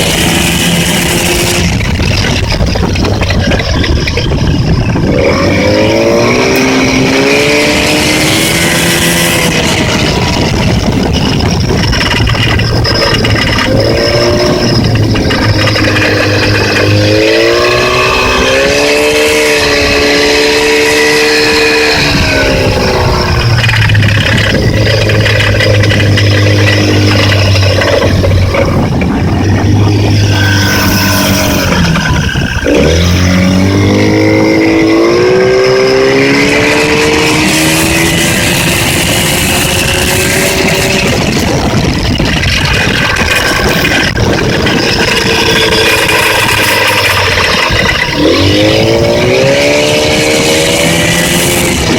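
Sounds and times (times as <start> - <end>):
outboard motor revving: 0.0 - 51.9.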